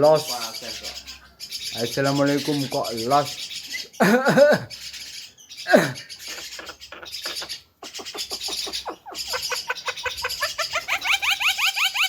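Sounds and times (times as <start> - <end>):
bird whistling and chattering: 0.2 - 12.0.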